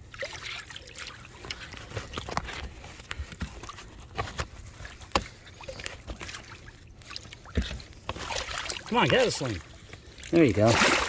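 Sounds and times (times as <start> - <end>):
water splashing: 0.0 - 3.0, 4.7 - 11.0.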